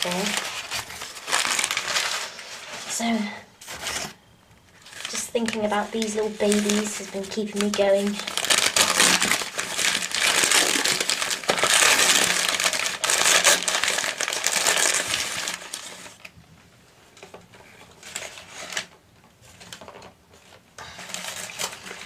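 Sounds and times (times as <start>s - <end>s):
packaging crinkling: 0.0s - 16.3s, 17.7s - 22.0s.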